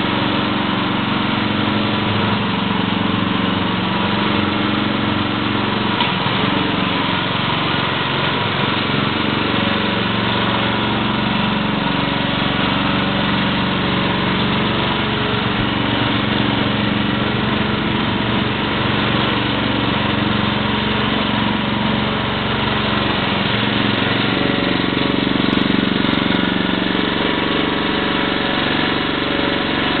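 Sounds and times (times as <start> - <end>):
small gas engine running: 0.0 - 30.0.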